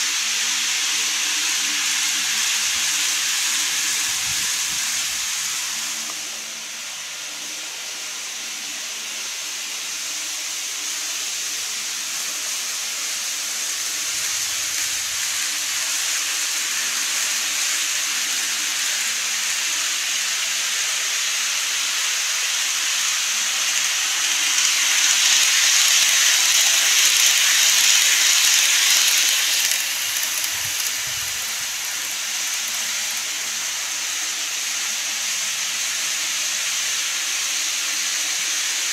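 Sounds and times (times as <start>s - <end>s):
model trains rolling on track: 0.0s - 38.9s.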